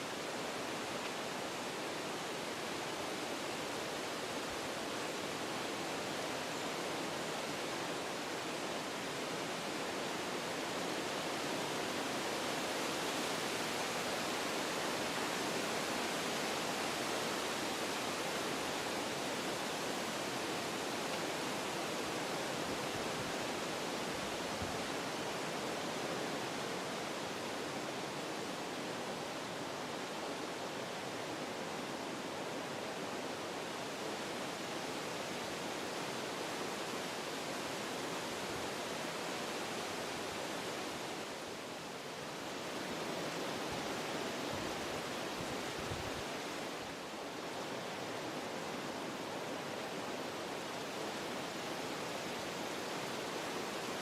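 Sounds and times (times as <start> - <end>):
wind through forest trees: 0.0 - 54.0.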